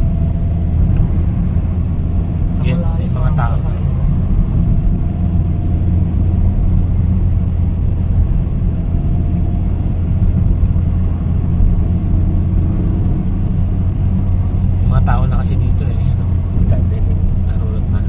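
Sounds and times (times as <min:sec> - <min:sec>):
car engine running: 0:00.0 - 0:18.0
road noise: 0:00.0 - 0:18.0.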